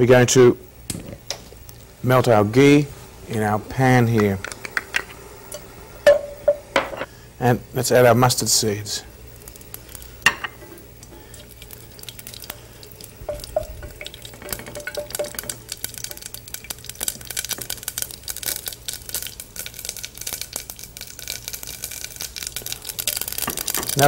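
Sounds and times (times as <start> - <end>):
mustard seeds sizzling and popping: 0.7 - 24.0.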